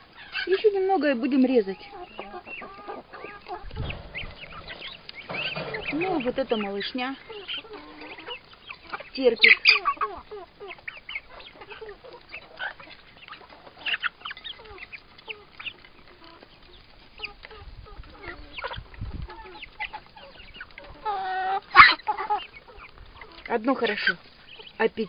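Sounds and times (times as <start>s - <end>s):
chickens clucking and cheeping: 0.0s - 25.0s
chicken squawk: 1.6s - 16.4s, 17.2s - 24.8s.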